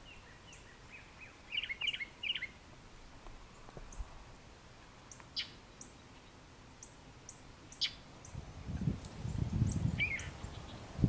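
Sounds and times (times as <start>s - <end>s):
small birds chirping: 0.0s - 4.2s, 4.8s - 11.0s.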